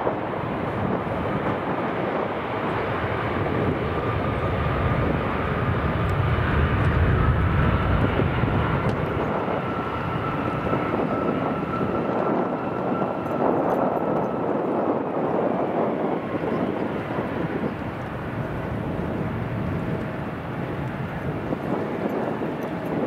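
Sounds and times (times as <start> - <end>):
jet engines at takeoff power: 0.0 - 23.0.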